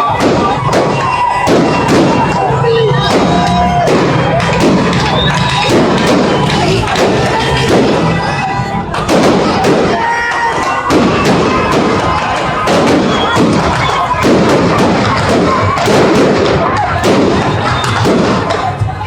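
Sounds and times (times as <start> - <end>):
crowd voices: 0.0 - 19.0
fireworks bangs and crackles: 0.0 - 19.0.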